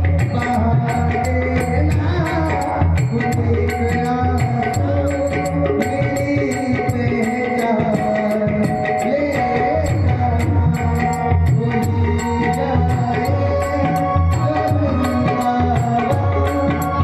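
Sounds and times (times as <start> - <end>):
person singing devotional song: 0.0 - 17.0
tabla beat: 0.0 - 17.0.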